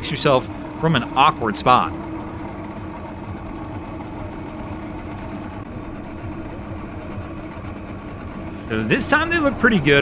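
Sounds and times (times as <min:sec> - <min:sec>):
motorboat engine idling: 0:00.0 - 0:10.0.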